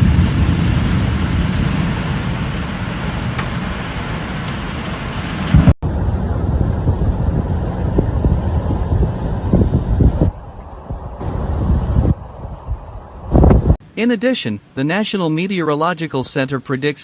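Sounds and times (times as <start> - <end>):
heavy rain hissing: 0.0 - 13.8
wind rumble on microphone: 0.0 - 13.8.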